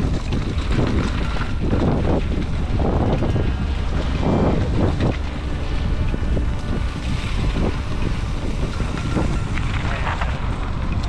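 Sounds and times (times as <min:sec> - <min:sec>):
tyres rumbling on dirt trail: 0:00.0 - 0:11.0
wind buffeting microphone: 0:00.0 - 0:11.0.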